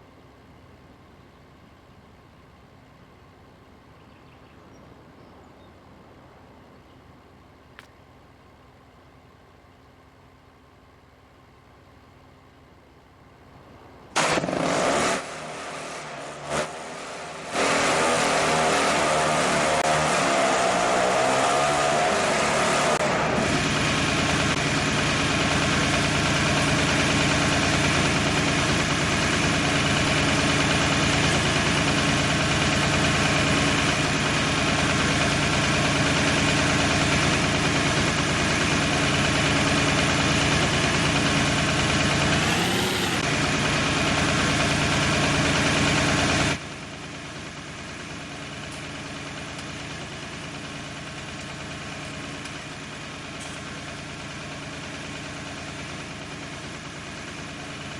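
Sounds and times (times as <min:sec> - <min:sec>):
tractor engine idling: 0:00.0 - 0:14.2, 0:22.9 - 0:57.9.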